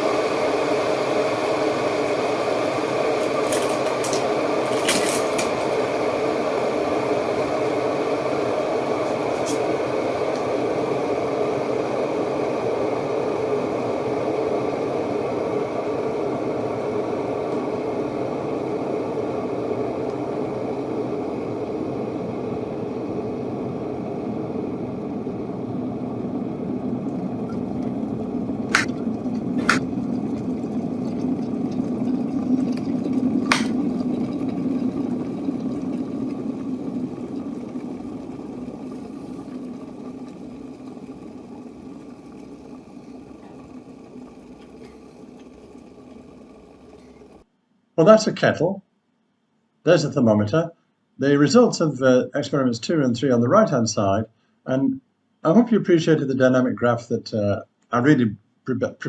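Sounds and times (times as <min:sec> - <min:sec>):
electric kettle heating water: 0:00.0 - 0:48.2, 0:51.2 - 0:54.1.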